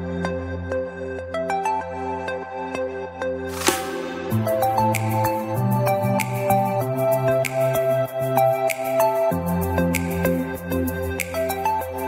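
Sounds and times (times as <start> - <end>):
calm new-age instrumental music: 0.0 - 12.0.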